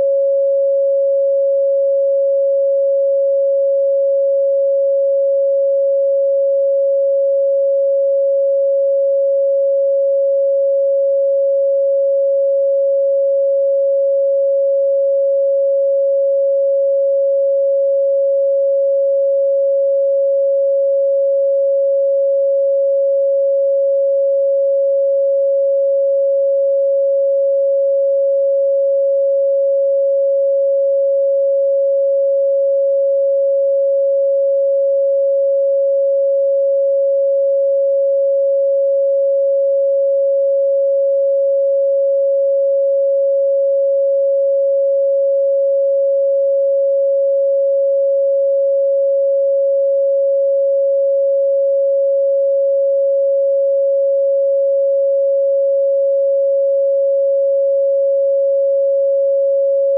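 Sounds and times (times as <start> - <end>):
steady sine tone: 0.0 - 59.9.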